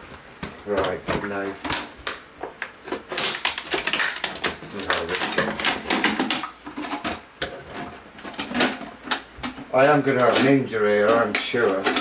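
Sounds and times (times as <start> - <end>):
plastic crackling and clicking: 0.4 - 7.6, 8.2 - 12.0.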